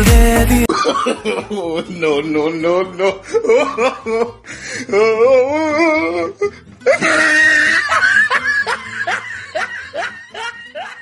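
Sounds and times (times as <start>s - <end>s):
person laughing: 0.5s - 2.0s, 2.9s - 11.0s.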